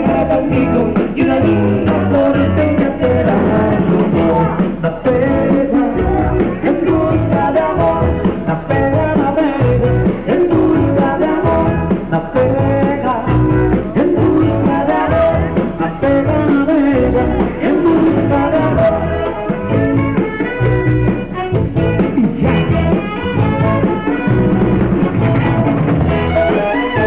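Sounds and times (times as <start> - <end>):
dance music with singer: 0.0 - 19.8, 22.0 - 23.9.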